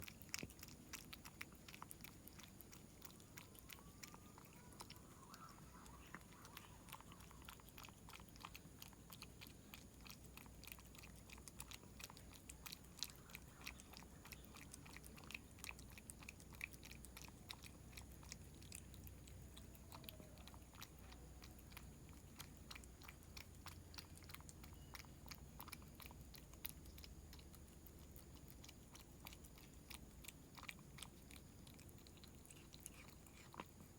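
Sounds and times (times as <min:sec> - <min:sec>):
cat chewing food: 0:00.0 - 0:33.9.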